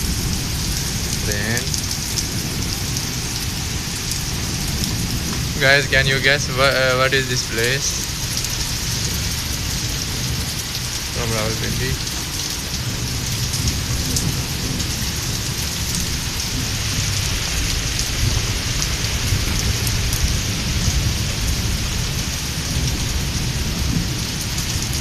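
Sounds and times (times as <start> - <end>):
constant low rumble: 0.0 - 25.0
heavy rain pouring: 0.0 - 25.0.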